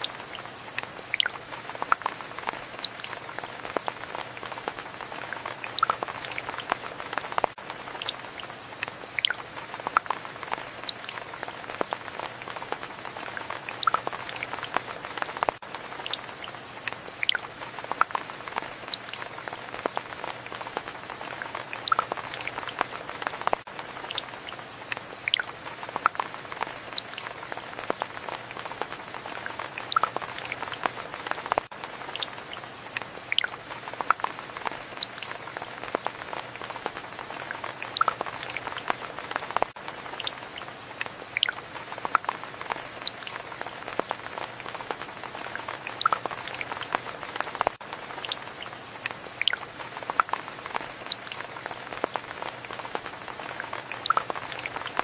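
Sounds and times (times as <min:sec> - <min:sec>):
rain hiss: 0:00.0 - 0:55.0
raindrops spattering on a surface: 0:00.0 - 0:55.0.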